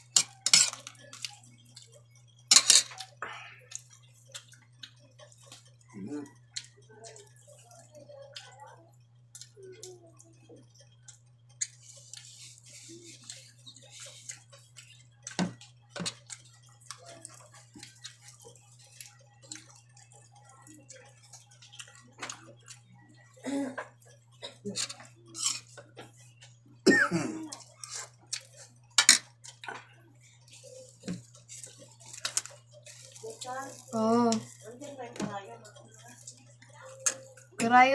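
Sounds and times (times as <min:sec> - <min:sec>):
chewing: 0:00.0 - 0:26.8, 0:27.4 - 0:37.6
steady low hum: 0:00.0 - 0:37.9.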